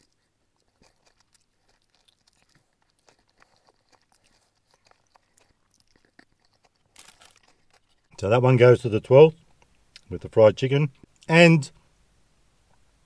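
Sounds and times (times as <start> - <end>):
chewing fried chicken: 0.0 - 11.3.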